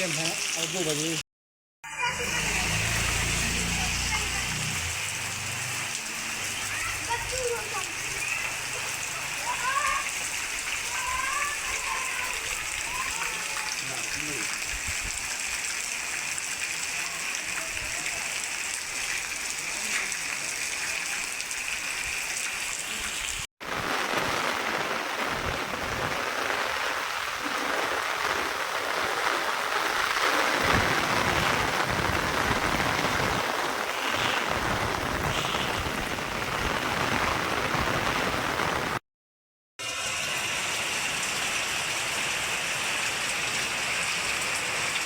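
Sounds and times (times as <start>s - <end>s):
rain falling: 0.0s - 1.2s, 1.9s - 39.0s, 39.8s - 45.0s.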